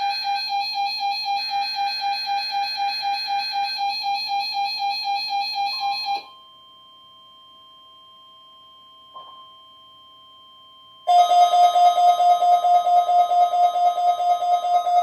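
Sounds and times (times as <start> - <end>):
faint steady tones: 0.0 - 15.0.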